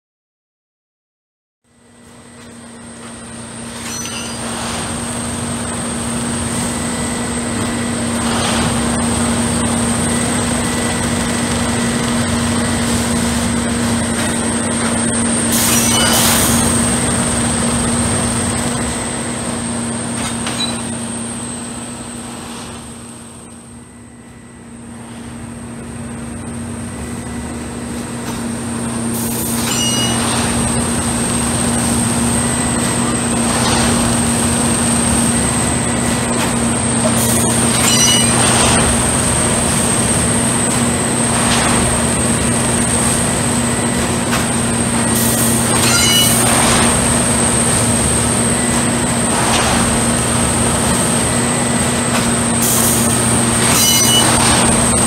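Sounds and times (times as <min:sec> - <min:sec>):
track tamping machine drone: 0:01.7 - 0:55.0.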